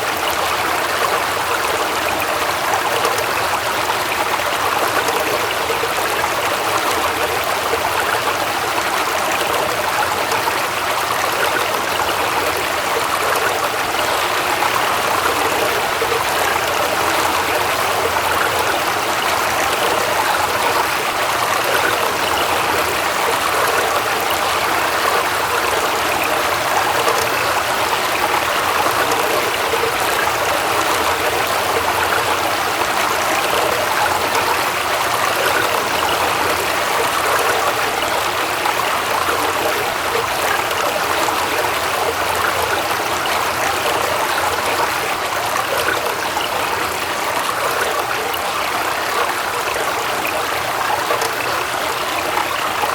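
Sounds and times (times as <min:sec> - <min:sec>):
waterfall pouring and splashing: 0:00.0 - 0:52.9.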